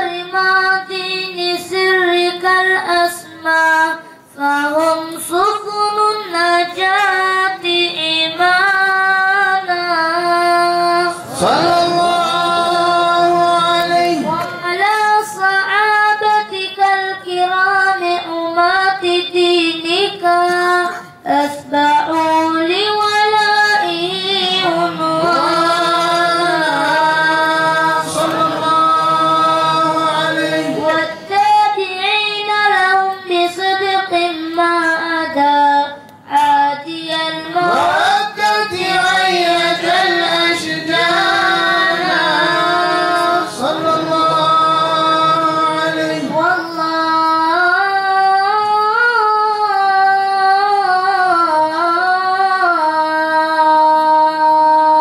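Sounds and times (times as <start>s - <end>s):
boy chanting a devotional song: 0.0s - 55.0s.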